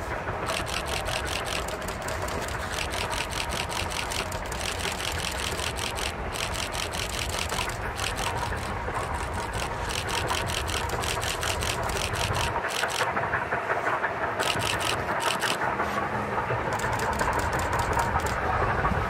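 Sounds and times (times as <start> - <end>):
low rumble of train: 0.0 - 19.0
steam locomotive exhaust chuffing: 0.0 - 19.0.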